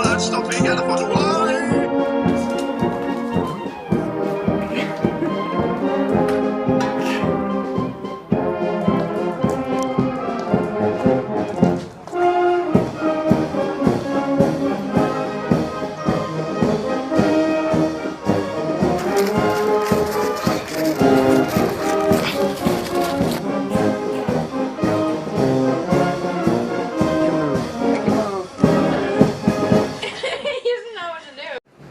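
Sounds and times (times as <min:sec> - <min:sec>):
brass-led orchestral music: 0:00.0 - 0:30.0.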